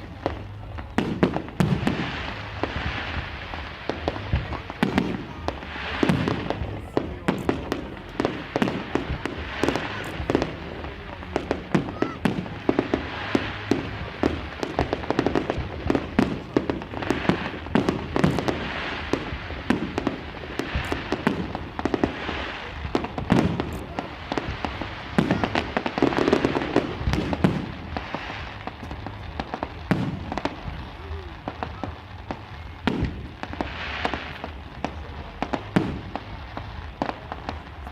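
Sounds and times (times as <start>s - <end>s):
fireworks bangs and pops: 0.0s - 37.9s
people's voices: 0.0s - 37.9s.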